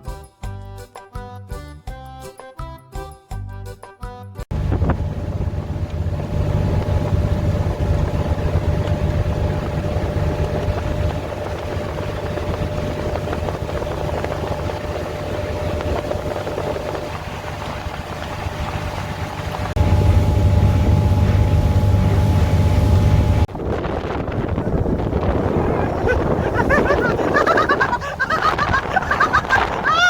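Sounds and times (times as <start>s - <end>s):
rushing water and air: 4.5s - 30.0s
speedboat engine running: 4.5s - 30.0s.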